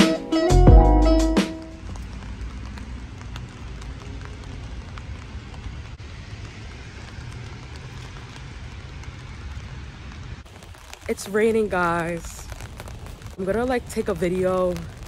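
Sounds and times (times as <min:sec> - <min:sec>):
steady rain falling: 0:01.0 - 0:15.0.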